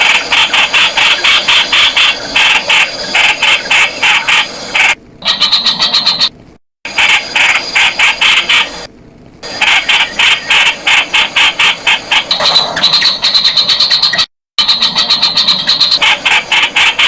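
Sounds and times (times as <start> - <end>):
bird calling rapid sharp notes: 0.0 - 17.0.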